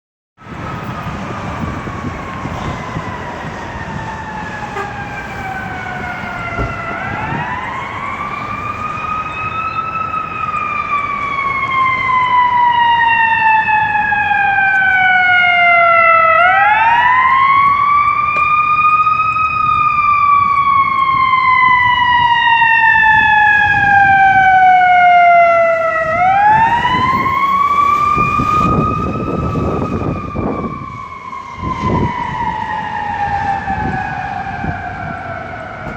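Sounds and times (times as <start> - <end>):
fire engine siren wailing: 0.4 - 35.9.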